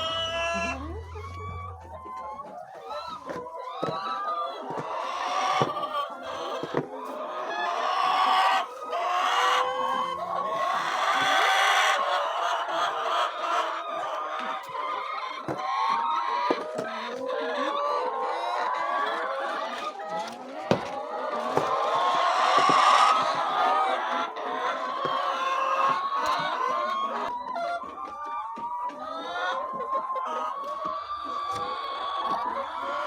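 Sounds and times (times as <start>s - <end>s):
hens clucking and calling: 0.0s - 33.0s.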